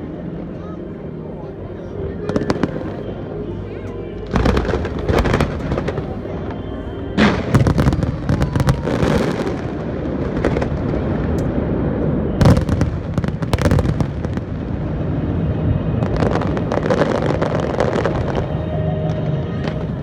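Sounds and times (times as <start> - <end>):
steady rumble: 0.0 - 20.0
fireworks bangs and crackles: 2.2 - 3.2, 4.2 - 20.0.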